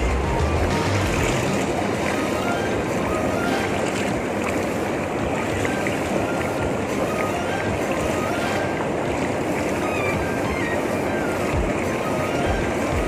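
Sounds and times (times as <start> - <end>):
pool water churning and bubbling: 0.0 - 13.0.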